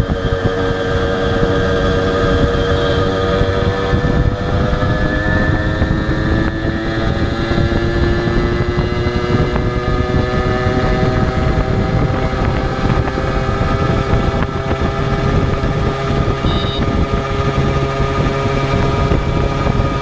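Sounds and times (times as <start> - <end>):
motorcycle engine accelerating: 0.0 - 20.0
wind rumbling on microphone: 0.0 - 20.0.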